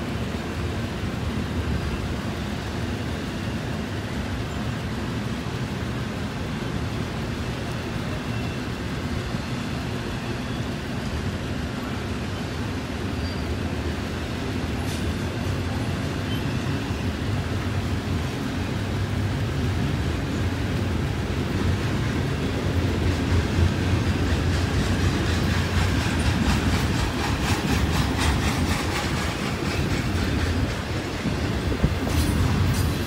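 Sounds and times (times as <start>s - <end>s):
freight cars rumbling on rails: 0.0s - 33.0s.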